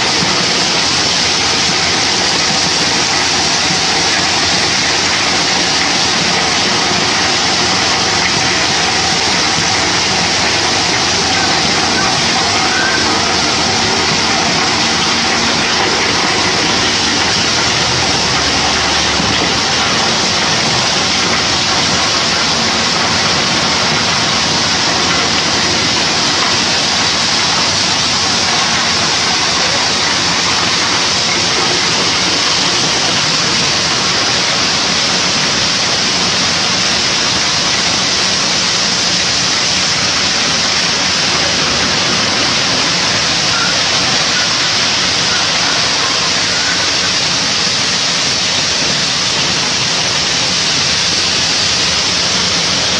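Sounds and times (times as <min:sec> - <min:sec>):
truck engine running: 0:00.0 - 0:52.9.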